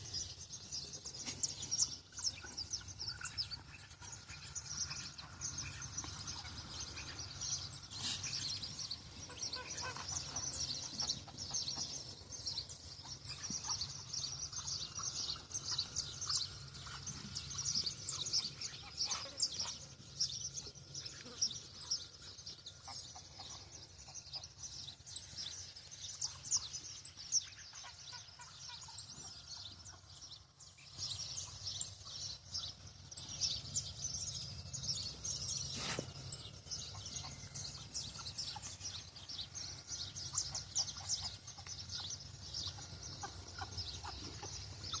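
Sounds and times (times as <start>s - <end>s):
birds chirping and twittering: 0.0s - 45.0s.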